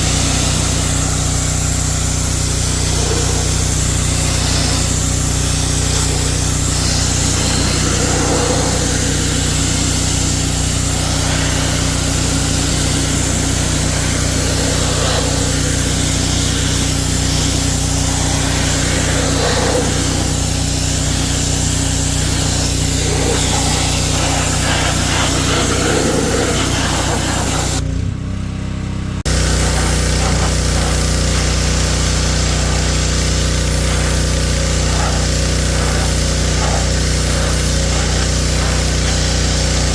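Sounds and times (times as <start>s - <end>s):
motor humming: 0.0s - 27.8s, 29.3s - 39.9s.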